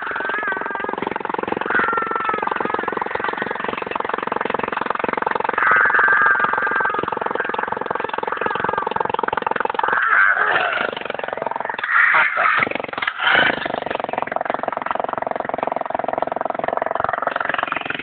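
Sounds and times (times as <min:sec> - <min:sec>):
hammer drill hammering into concrete: 0:00.0 - 0:18.0.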